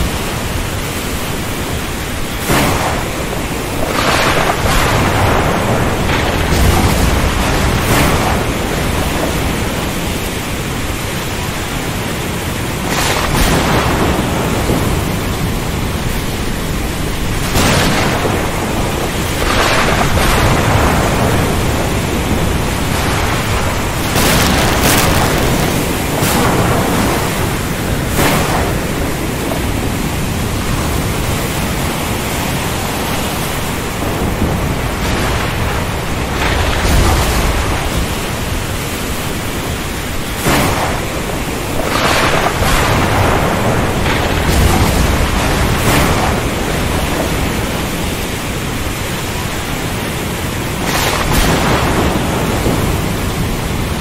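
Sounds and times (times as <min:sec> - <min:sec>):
deep rolling thunder rumble: 0:00.0 - 0:54.0
heavy rain: 0:00.0 - 0:54.0
thunder cracks: 0:02.3 - 0:10.5, 0:12.7 - 0:32.0, 0:33.8 - 0:38.9, 0:40.3 - 0:48.6, 0:50.7 - 0:54.0.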